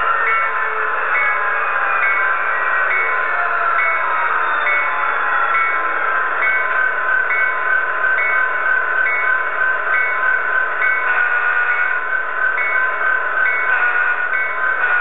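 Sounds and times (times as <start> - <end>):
thin diesel engine drone: 0.0 - 15.0.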